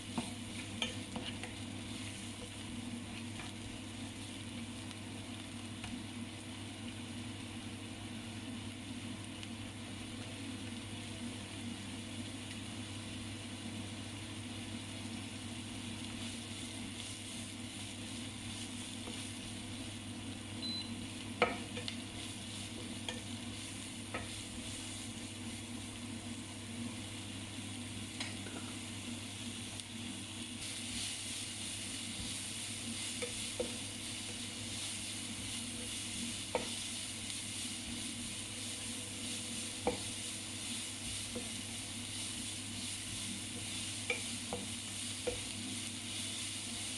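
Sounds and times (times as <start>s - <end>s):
food sizzling on a griddle: 0.0s - 46.9s
steady low hum: 0.0s - 46.9s.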